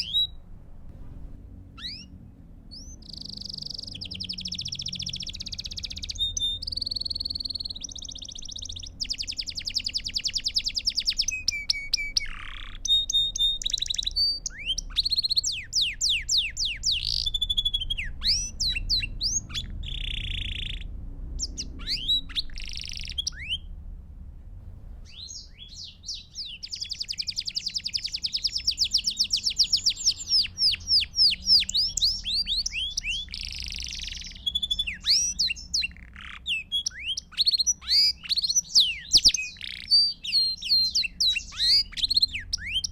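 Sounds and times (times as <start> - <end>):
canary singing trills: 0.0 - 0.5, 1.7 - 23.7, 25.0 - 42.9.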